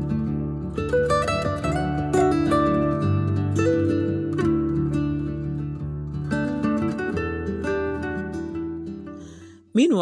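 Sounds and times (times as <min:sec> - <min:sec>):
plucked string music: 0:00.0 - 0:09.4.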